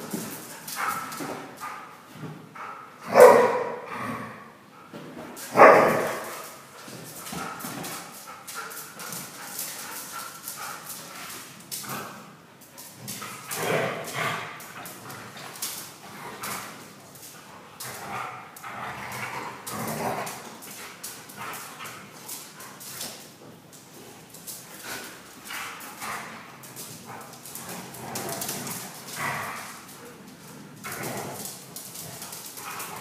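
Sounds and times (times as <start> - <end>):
claws clicking on tiled floor: 0.0 - 1.8, 5.4 - 33.0
dogs playing vocalizations: 5.3 - 33.0.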